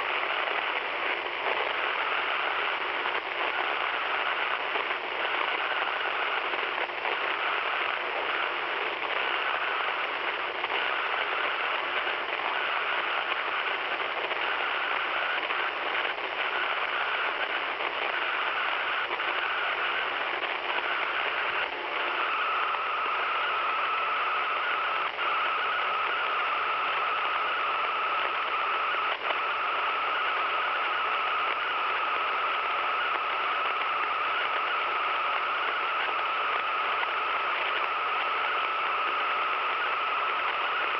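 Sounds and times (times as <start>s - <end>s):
radio hissing interference: 0.0s - 40.9s
thin whine: 0.0s - 40.9s.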